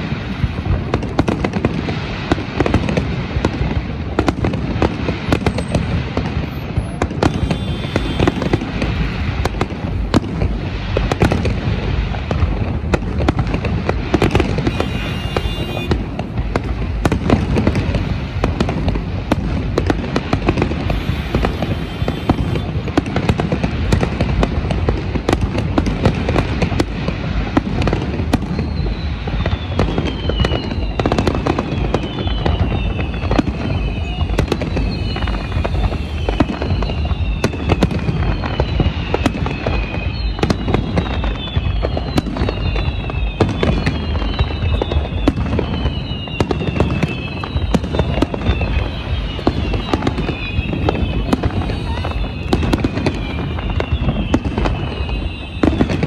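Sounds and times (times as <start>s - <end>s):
falling firework whistles: 0.0s - 56.0s
fireworks bangs and crackling: 0.0s - 56.0s.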